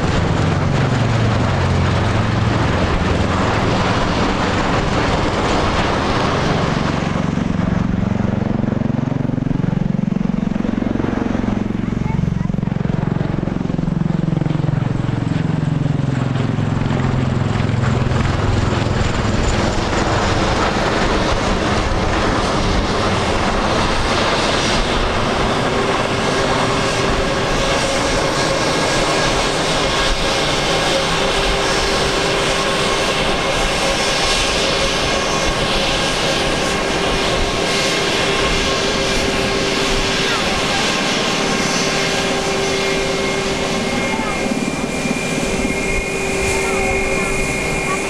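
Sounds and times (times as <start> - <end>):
aircraft rotor and engine noise: 0.0 - 48.0
steady whine: 0.0 - 48.0.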